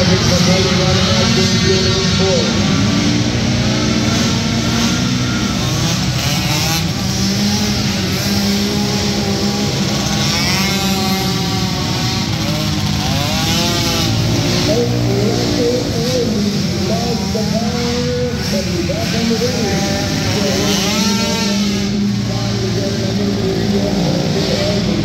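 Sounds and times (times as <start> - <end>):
quad engines racing: 0.0 - 25.0.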